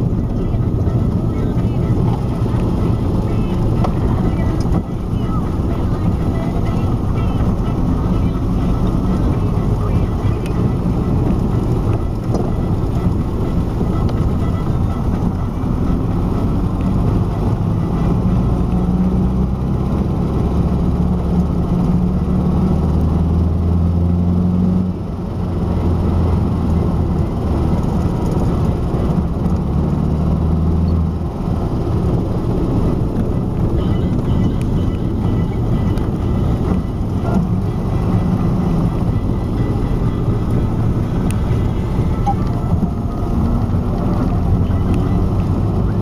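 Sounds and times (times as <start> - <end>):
car engine rumble: 0.0 - 46.0
low rear-axle drone: 0.0 - 46.0.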